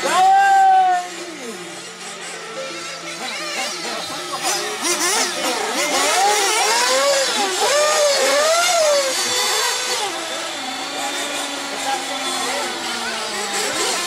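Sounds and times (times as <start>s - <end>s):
rc buggy nitro engine revving: 0.0s - 14.0s.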